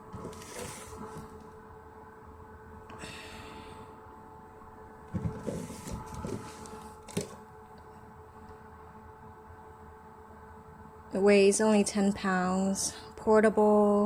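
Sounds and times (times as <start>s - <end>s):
dehumidifier humming: 0.0s - 14.0s.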